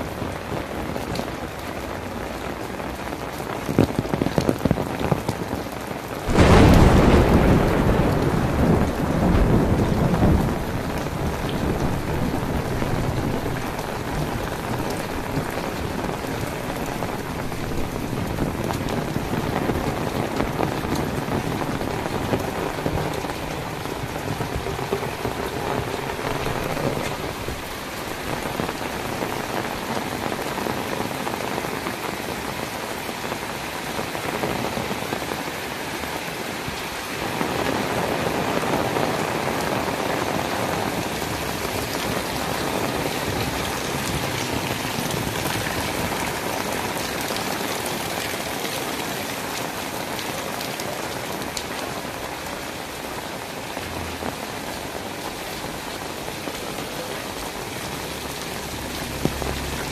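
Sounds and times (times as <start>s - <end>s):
heavy rain on roofs: 0.0s - 59.9s.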